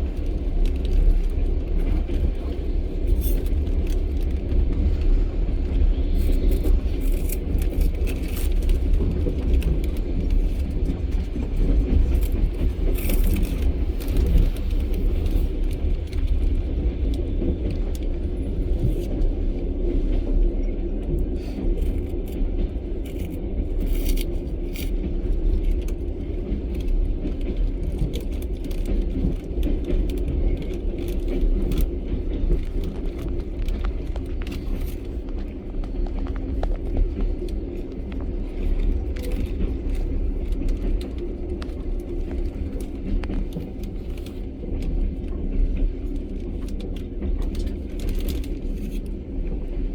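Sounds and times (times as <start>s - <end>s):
train carriage rumbling on track: 0.0s - 49.9s.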